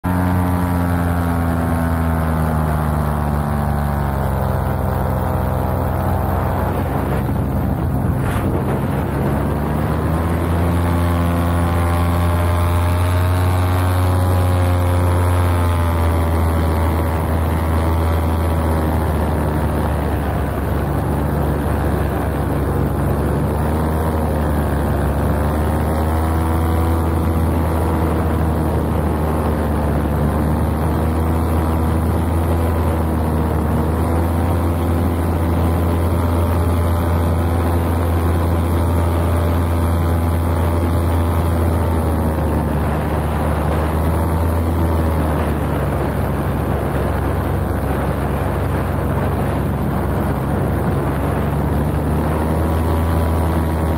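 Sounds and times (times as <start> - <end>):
paramotor engine and propeller: 0.0 - 53.9.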